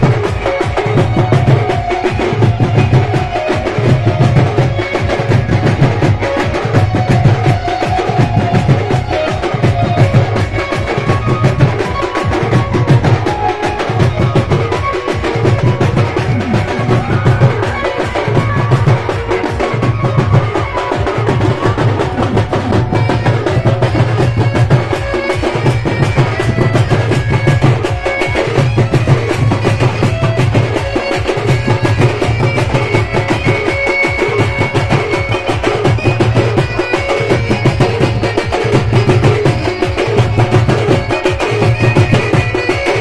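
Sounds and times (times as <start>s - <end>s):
clacking percussion: 0.0s - 43.0s
drum band playing dance music: 0.0s - 43.0s.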